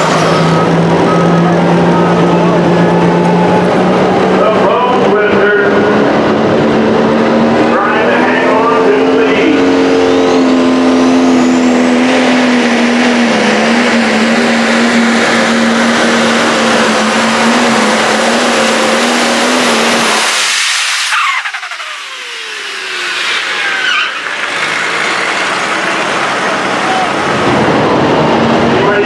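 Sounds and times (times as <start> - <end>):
high whine climbing in pitch: 0.0 - 29.0
tractor diesel engine under load: 0.0 - 29.0.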